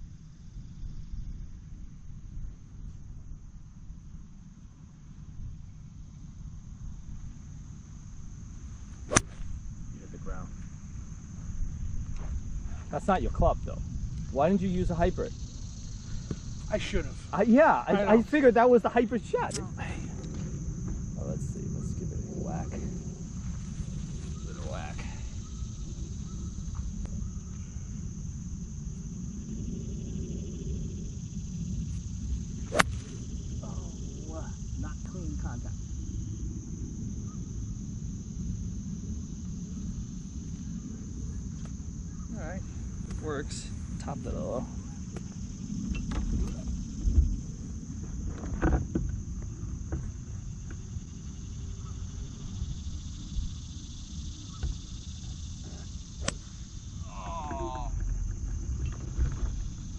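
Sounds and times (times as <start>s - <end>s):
wind rumble on microphone: 0.0s - 18.4s, 19.3s - 59.9s
crickets chirping: 0.0s - 59.9s
insects chorus: 0.0s - 59.9s.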